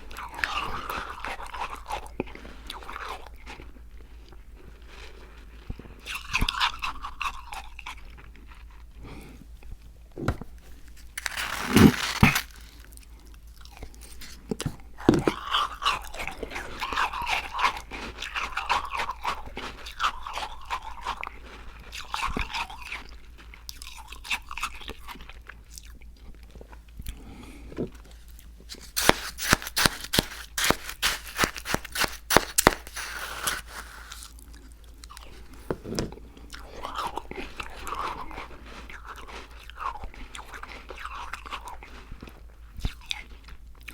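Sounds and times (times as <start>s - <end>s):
crunchy cookie chewing: 0.0s - 43.9s.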